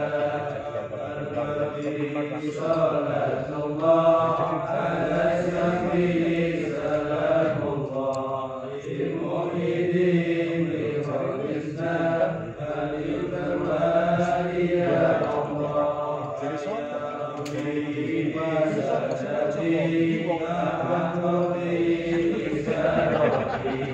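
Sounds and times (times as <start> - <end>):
men chanting prayers in unison: 0.0 - 23.9.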